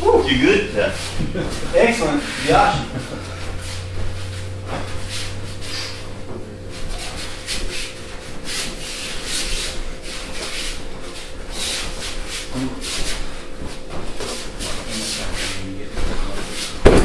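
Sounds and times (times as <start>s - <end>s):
bare feet shuffling on a mat: 0.0s - 17.0s.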